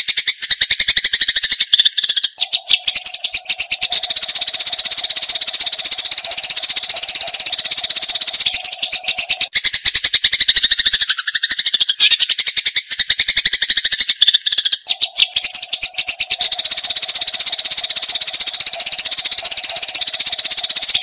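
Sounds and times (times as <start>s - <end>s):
sparrow harsh chatter: 1.8s - 21.0s.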